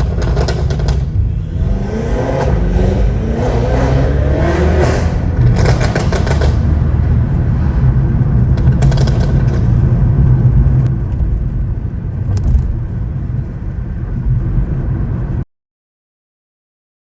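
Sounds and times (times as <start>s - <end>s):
car engine exhaust rumble: 0.0s - 15.4s.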